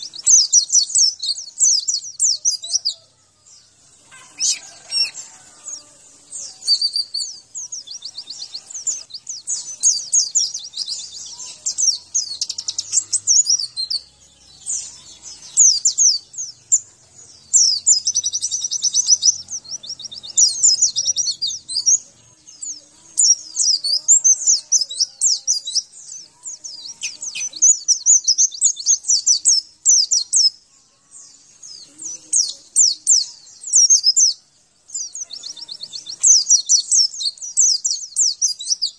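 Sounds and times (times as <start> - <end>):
high-pitched bird twittering: 0.0 - 3.1, 4.1 - 30.6, 31.8 - 38.9.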